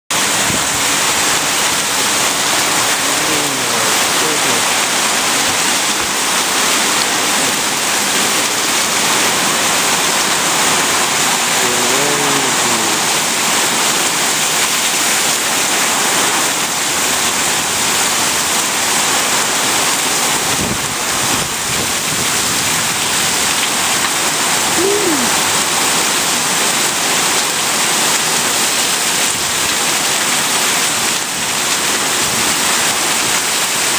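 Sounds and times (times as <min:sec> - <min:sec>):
heavy rain: 0:00.1 - 0:33.9
water pouring off roof edge: 0:00.2 - 0:33.9.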